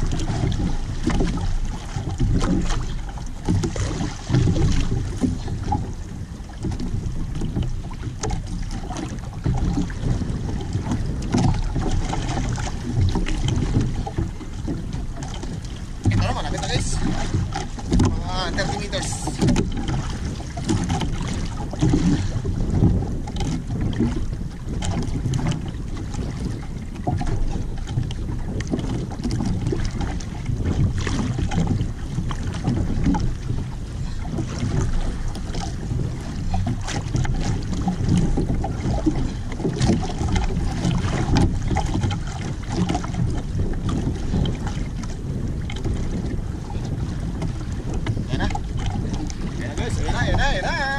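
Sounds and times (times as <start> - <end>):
water lapping against boat hull: 0.0 - 50.9
wind buffeting microphone: 0.0 - 50.9.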